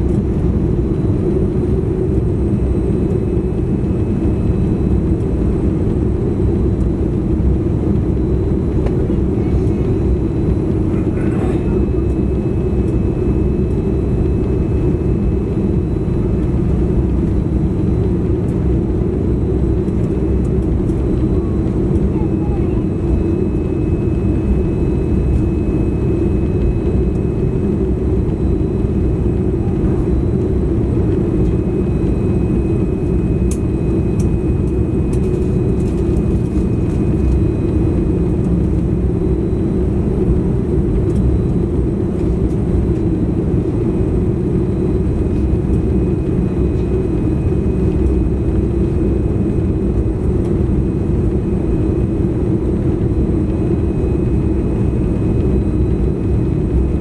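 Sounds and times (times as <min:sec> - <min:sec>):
aircraft cabin low rumble: 0:00.0 - 0:57.0.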